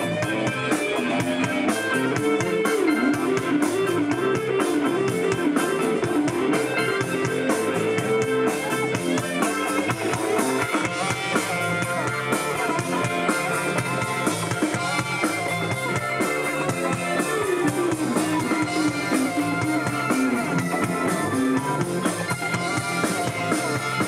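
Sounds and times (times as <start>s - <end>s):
rock band playing: 0.0s - 24.0s
steady drum beat: 0.0s - 24.0s.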